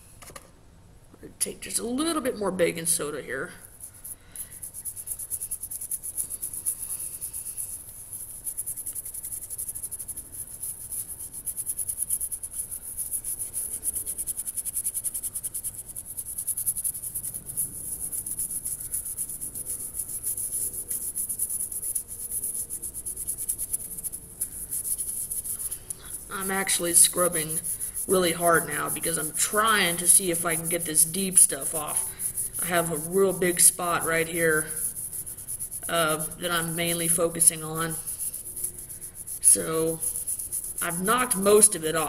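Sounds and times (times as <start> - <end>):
toothbrush scrubbing a steel blade: 2.8 - 42.0.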